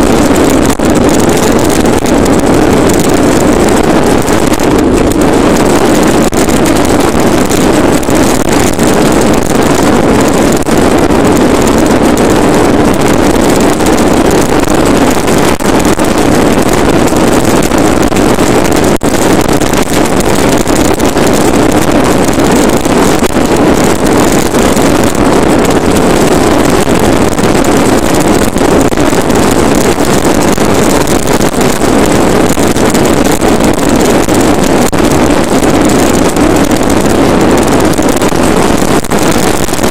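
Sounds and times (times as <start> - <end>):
plastic toy wheels rolling on asphalt: 0.0 - 39.9
wind buffeting microphone: 0.0 - 39.9.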